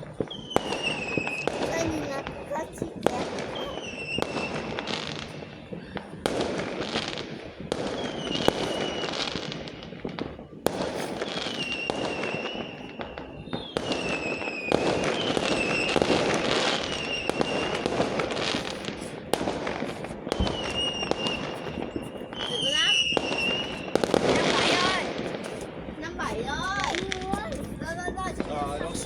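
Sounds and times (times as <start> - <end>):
fireworks bangs and crackling: 0.0 - 29.0
fireworks whistling: 0.0 - 29.0.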